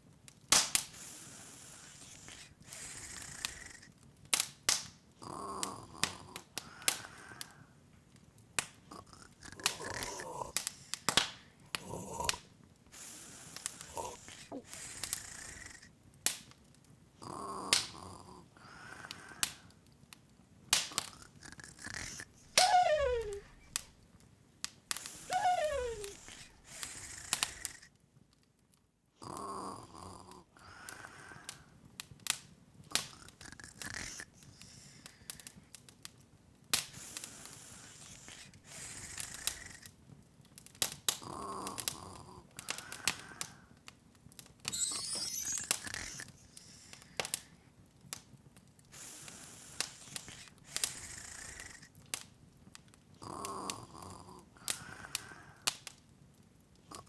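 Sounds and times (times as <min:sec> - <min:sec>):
open fire crackling: 0:00.0 - 0:57.0.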